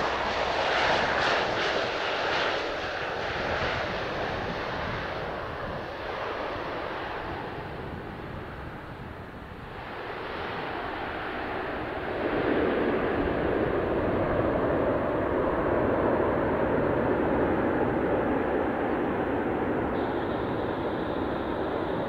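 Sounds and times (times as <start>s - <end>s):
turboprop engines running: 0.0s - 22.0s.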